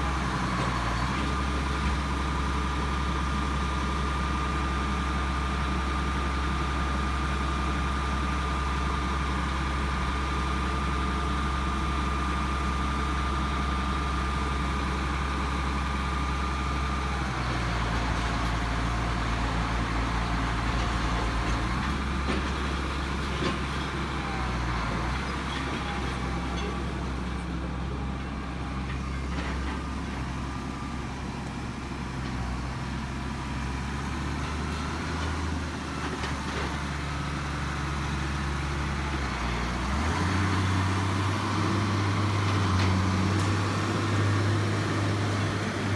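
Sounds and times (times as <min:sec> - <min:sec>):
heavy engine running: 0:00.0 - 0:45.9.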